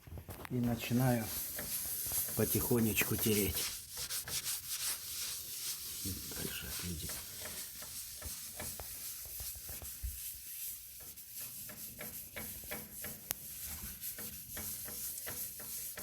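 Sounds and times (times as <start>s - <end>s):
wipe scrubbing glass door: 0.6s - 16.0s.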